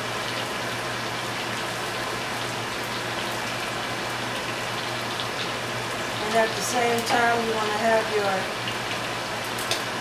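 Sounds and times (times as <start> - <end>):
food sizzling in skillets: 0.0 - 10.0.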